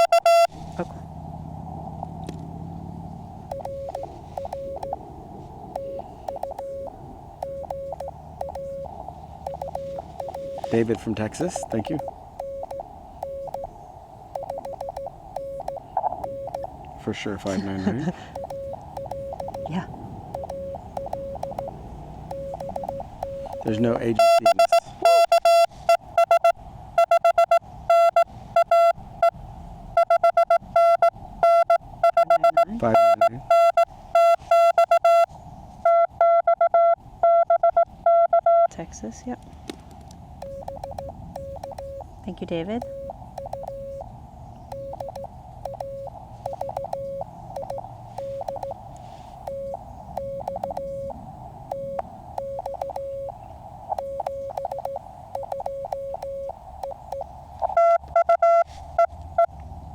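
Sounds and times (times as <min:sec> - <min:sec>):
morse code tone: 0:00.0 - 0:00.7, 0:03.5 - 0:05.0, 0:05.8 - 0:13.7, 0:14.4 - 0:16.8, 0:17.4 - 0:29.4, 0:30.0 - 0:35.3, 0:35.9 - 0:38.7, 0:40.4 - 0:42.1, 0:42.8 - 0:44.1, 0:44.7 - 0:59.1
receiver hiss: 0:03.3 - 0:35.3, 0:42.8 - 0:59.4.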